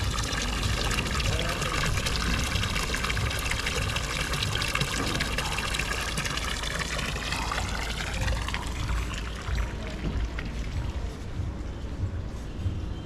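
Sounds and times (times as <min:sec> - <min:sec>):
fountain water splashing into basin: 0:00.0 - 0:11.4.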